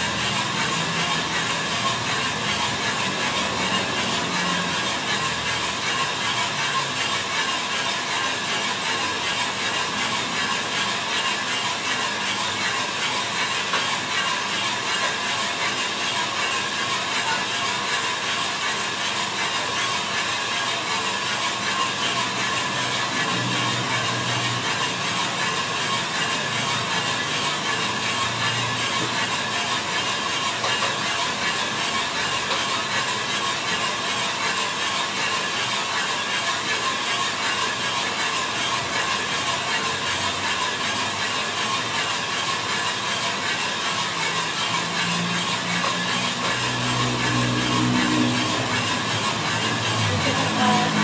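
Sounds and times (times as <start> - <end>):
coffee beans tumbling in drum: 0.0 - 51.0
roaster motor and fan noise: 0.0 - 51.0.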